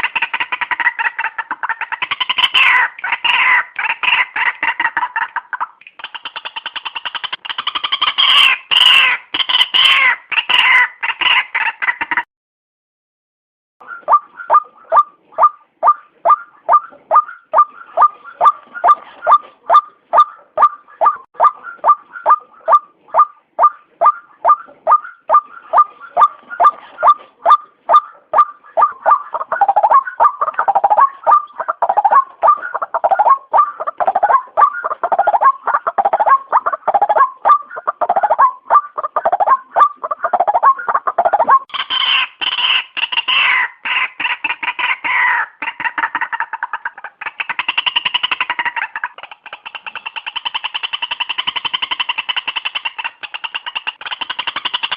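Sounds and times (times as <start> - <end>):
waterhen calling: 0.0 - 12.1, 13.8 - 54.9.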